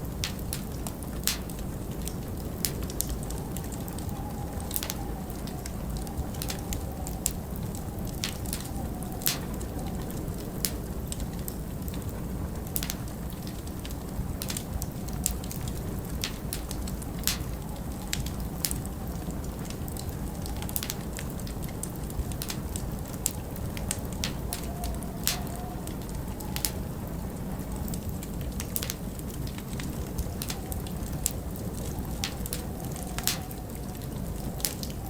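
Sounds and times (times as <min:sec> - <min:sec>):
fire low rumble: 0:00.0 - 0:35.0
wood fire crackling and popping: 0:00.0 - 0:35.0.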